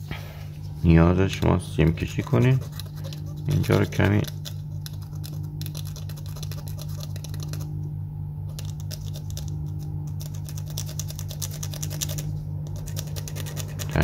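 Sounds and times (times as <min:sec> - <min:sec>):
steady low hum: 0:00.0 - 0:14.0
scratching on circuit board: 0:01.8 - 0:07.7, 0:08.5 - 0:14.0.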